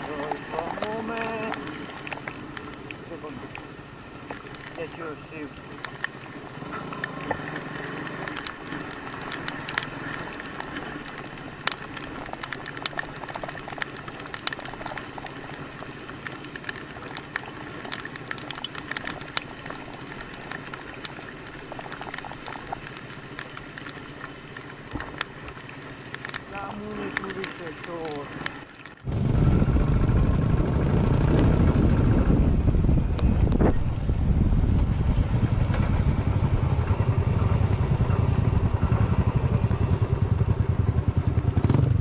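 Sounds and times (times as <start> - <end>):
low hum: 0.0 - 42.0
rain pattering: 0.0 - 42.0.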